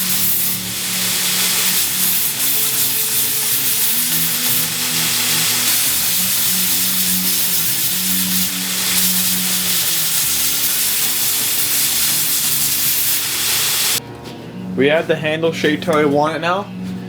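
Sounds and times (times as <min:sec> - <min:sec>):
belt grinder grinding hiss: 0:00.0 - 0:14.0.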